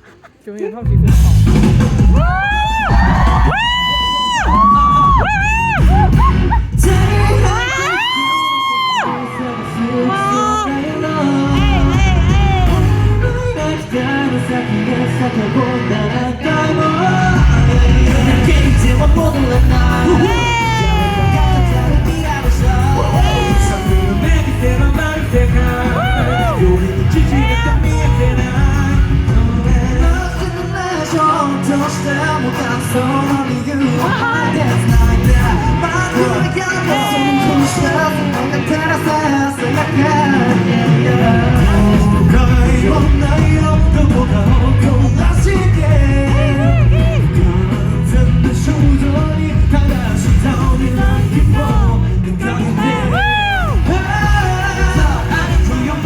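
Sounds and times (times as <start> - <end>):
people shouting and yelling: 0.8 - 15.2, 17.3 - 56.0
pop backing track with heavy beat: 0.8 - 56.0
male vocal group singing: 0.9 - 56.0.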